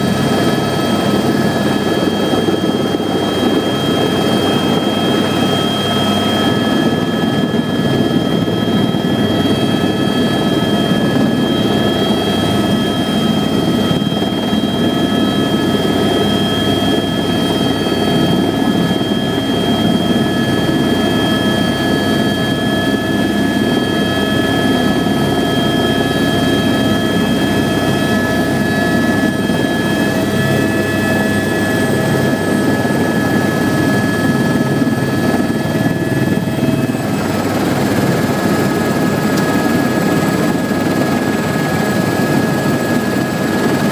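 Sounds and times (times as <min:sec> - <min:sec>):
helicopter rotor and engine roar: 0:00.0 - 0:43.9
high turbine whine: 0:00.0 - 0:43.9.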